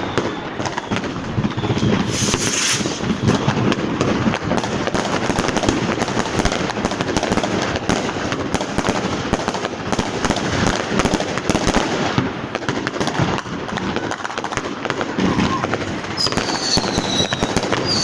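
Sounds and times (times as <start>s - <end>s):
fireworks and firecrackers popping: 0.0s - 18.0s.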